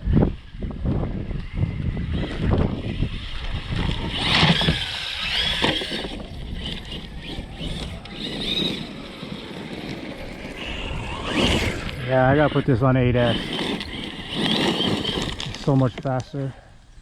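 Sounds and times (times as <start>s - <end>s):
electric motor whining: 0.2s - 16.2s.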